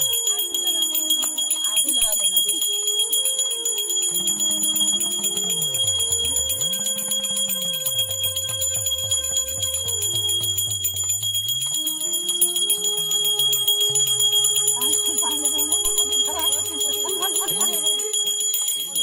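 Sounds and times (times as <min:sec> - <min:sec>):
low gliding melodic tone: 0:00.0 - 0:19.0
small bell rung rapidly: 0:00.0 - 0:19.0.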